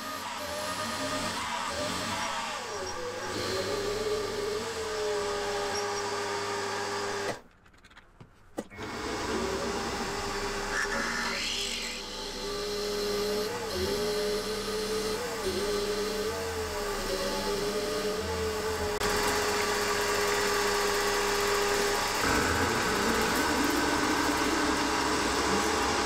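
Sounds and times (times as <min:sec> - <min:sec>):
milling machine motor whine: 0:00.0 - 0:07.4, 0:08.8 - 0:26.0.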